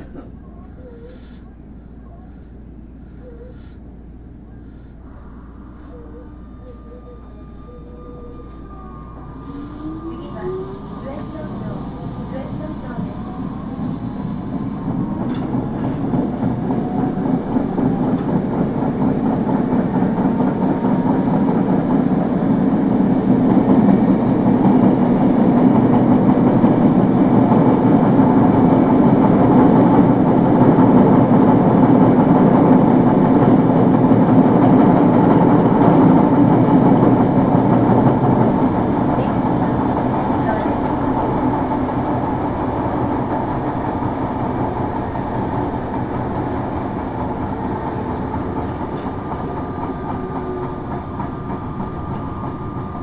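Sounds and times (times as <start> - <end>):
subway car wheels running: 0.0 - 53.0.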